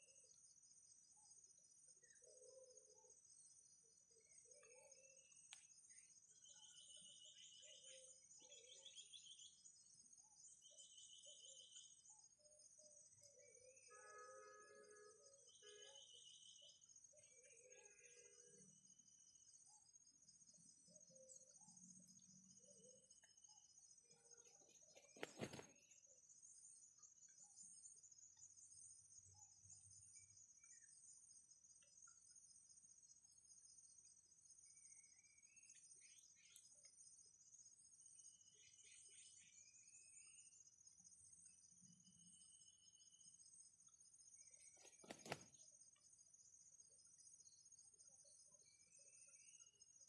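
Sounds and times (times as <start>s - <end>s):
small birds chirping: 0.0s - 13.9s, 15.2s - 50.0s.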